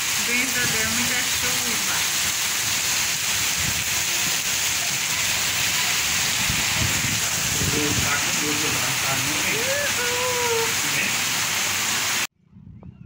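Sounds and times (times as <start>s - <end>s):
heavy rain on rooftops and pavement: 0.0s - 12.3s.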